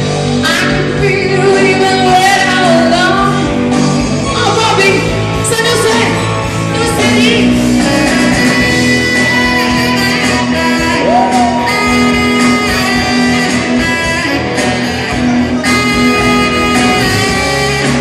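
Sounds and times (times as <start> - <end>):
pop-rock band with electric guitar: 0.0 - 18.0
saxophone solo: 0.0 - 18.0.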